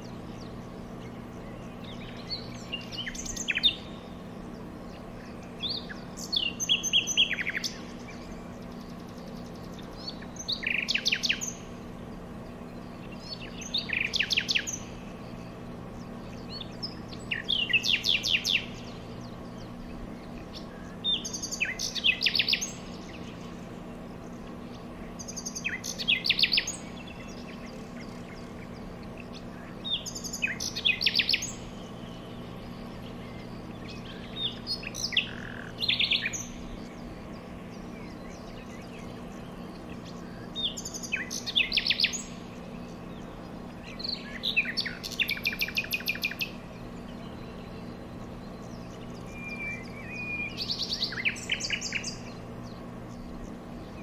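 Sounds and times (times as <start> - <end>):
faint low hum: 0.0 - 54.0
songbird singing: 0.0 - 54.0.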